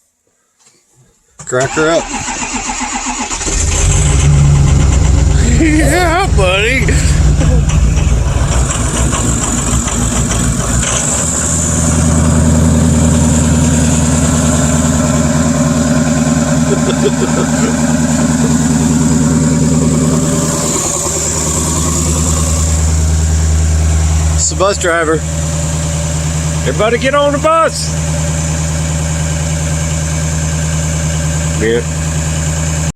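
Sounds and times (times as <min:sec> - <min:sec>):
diesel engine idling: 0:01.6 - 0:32.9.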